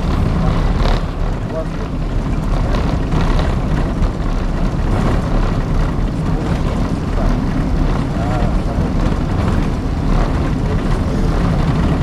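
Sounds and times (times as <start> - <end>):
heavy low rumble: 0.0 - 12.0
jet engines roaring: 0.0 - 12.0.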